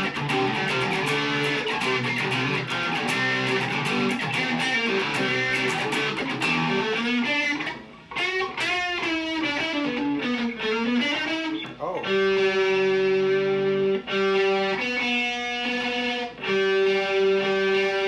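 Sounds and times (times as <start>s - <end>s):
electric guitar notes and chords: 0.0s - 18.0s.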